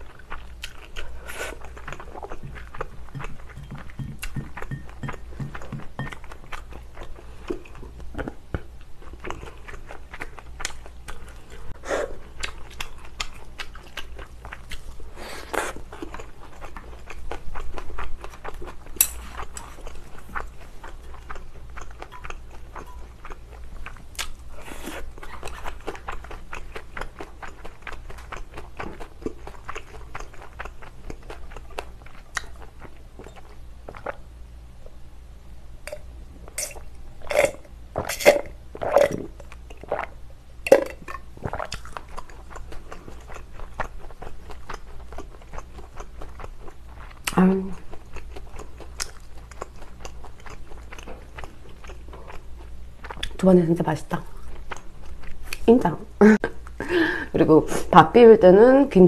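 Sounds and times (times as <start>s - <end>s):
close chewing and crunching: 0.0s - 34.3s, 37.0s - 55.7s.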